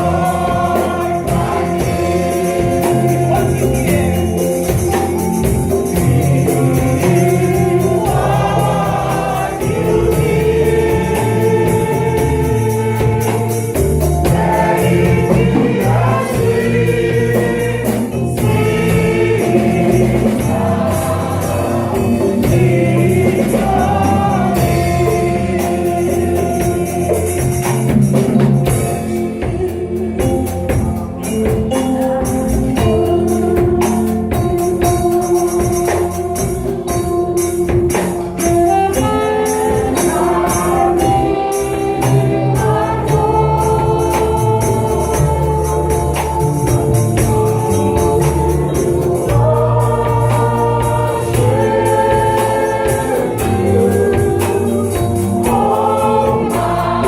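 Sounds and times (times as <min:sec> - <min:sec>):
choir singing with a band: 0:00.0 - 0:57.0
tambourine beat: 0:00.0 - 0:57.0.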